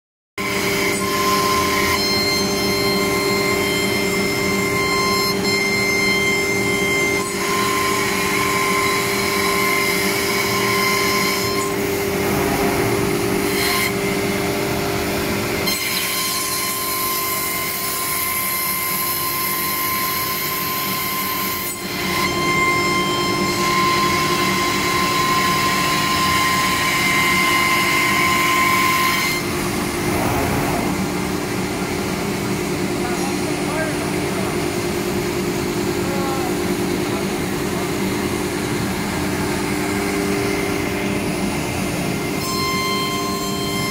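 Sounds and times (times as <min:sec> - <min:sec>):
router spindle cutting panel: 0:00.4 - 0:43.9.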